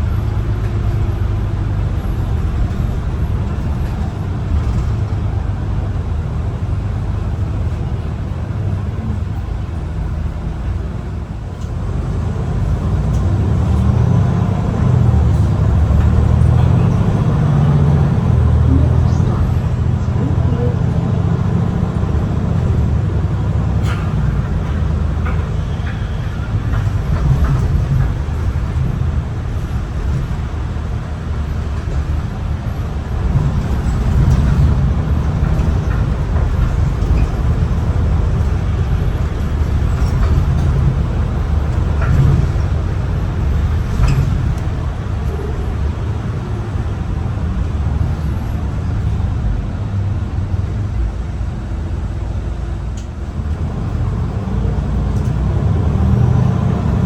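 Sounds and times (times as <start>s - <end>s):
bus engine and road drone: 0.0s - 57.0s.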